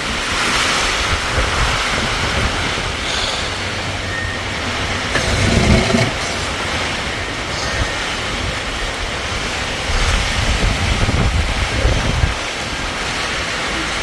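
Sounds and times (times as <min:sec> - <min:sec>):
wind buffeting microphone: 0:00.0 - 0:13.6
storm wind and rain: 0:00.0 - 0:14.0.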